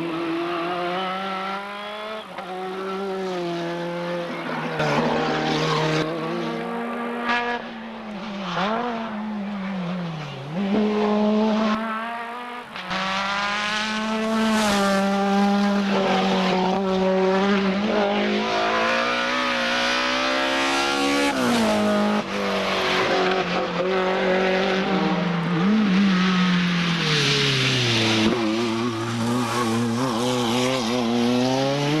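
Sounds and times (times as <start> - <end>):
rally car engines at full throttle: 0.0 - 32.0.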